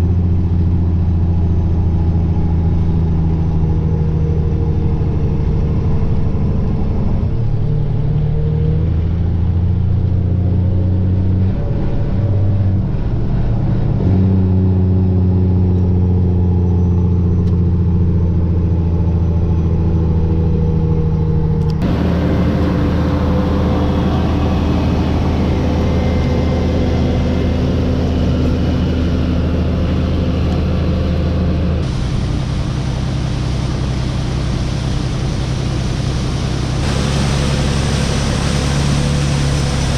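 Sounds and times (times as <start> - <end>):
heavy farm vehicle engine: 0.0 - 39.9.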